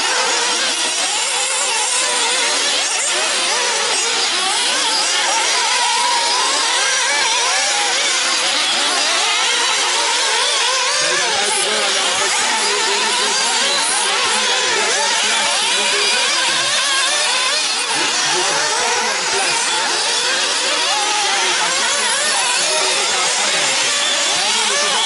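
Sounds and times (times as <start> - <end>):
small engines whining at high revs: 0.0 - 25.0.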